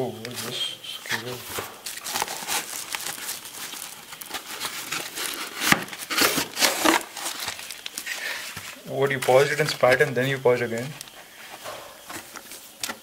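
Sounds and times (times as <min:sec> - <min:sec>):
cardboard and paper rustling: 0:00.2 - 0:13.0.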